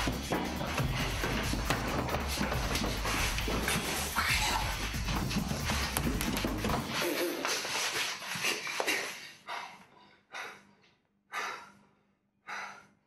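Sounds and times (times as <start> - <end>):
person breathing hard: 0.0 - 13.0.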